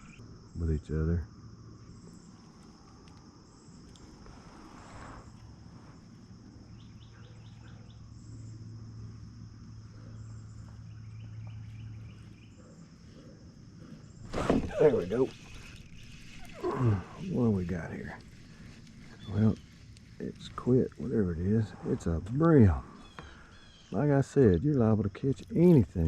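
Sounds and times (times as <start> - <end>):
crickets chirring: 0.0 - 26.0
faint low hum: 0.0 - 26.0.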